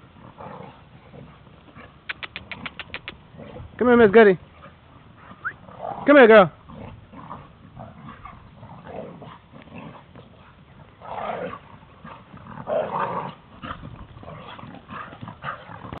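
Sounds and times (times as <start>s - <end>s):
dogs growling while play-fighting: 0.0s - 2.6s, 3.2s - 3.8s, 4.4s - 16.0s.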